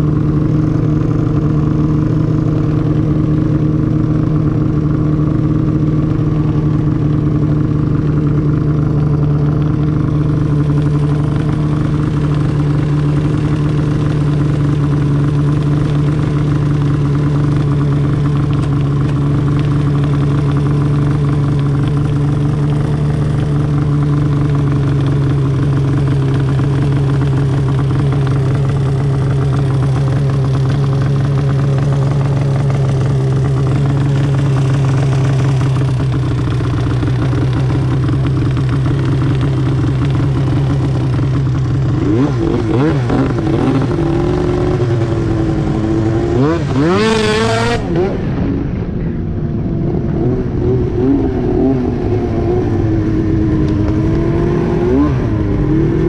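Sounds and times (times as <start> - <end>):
snowmobile engine idling: 0.0 - 56.0.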